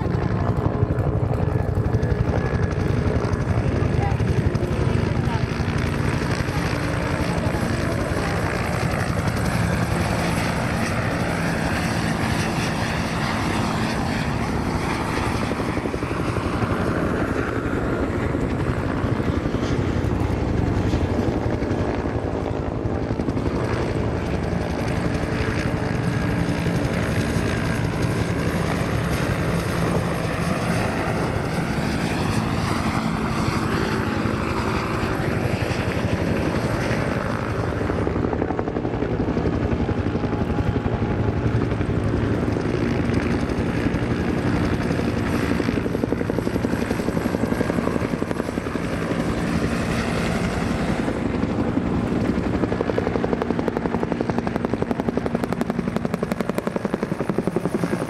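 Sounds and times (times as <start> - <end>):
helicopter engine tones: 0.0 - 58.0
helicopter rotors beating: 0.0 - 58.0.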